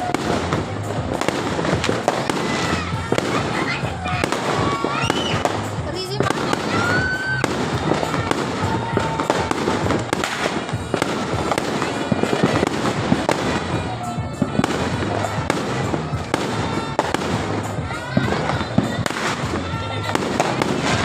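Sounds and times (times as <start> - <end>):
background music: 0.0 - 21.0
fireworks crackling and banging: 0.0 - 21.0
fireworks whistles rising: 0.0 - 21.0.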